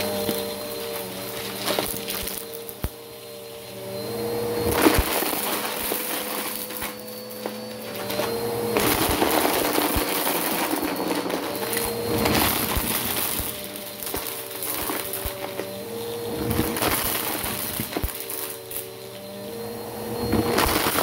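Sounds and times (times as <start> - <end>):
vacuum cleaner motor hum: 0.0 - 21.0.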